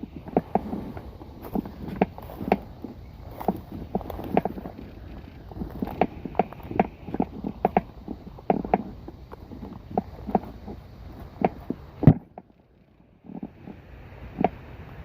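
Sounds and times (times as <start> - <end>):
wind on microphone: 0.0 - 15.0
sharp taps and knocks: 0.1 - 12.5.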